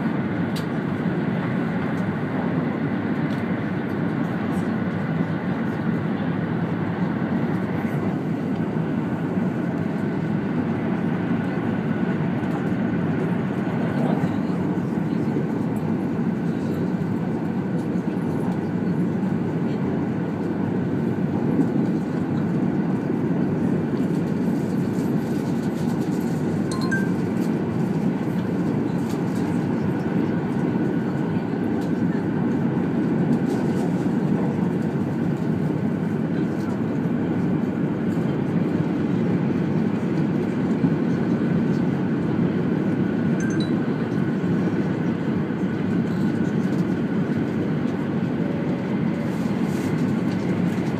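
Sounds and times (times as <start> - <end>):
train wheels rumbling inside cabin: 0.0 - 50.9.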